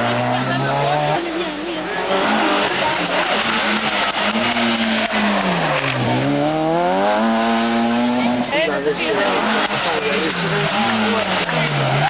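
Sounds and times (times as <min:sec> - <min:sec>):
rally car engine revving: 0:00.0 - 0:12.0
road noise: 0:00.0 - 0:12.0.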